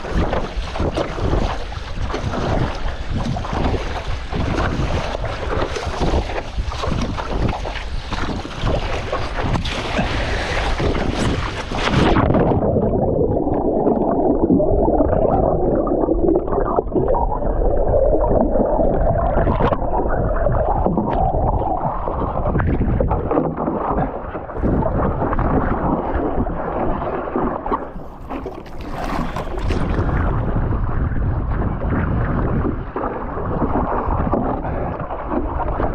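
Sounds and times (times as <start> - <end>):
choppy sea water: 0.0 - 35.9
wind on microphone: 0.0 - 35.9.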